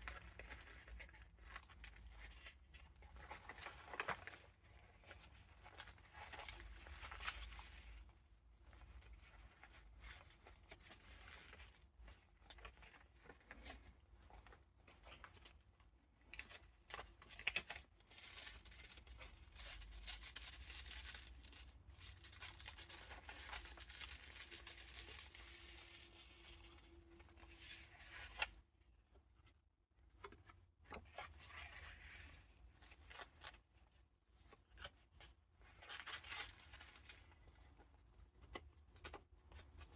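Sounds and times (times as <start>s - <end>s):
paper rustling and crinkling: 0.0s - 28.6s, 30.2s - 33.7s, 34.4s - 39.9s.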